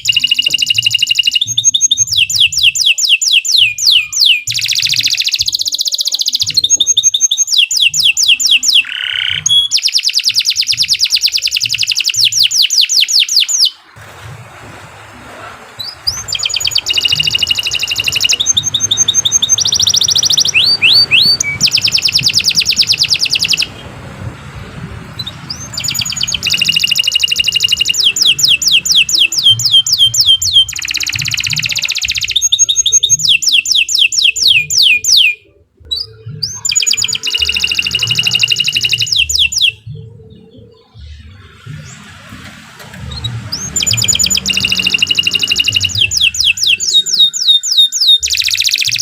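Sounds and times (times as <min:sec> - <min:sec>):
canary singing trills: 0:00.0 - 0:14.0, 0:15.7 - 0:49.0.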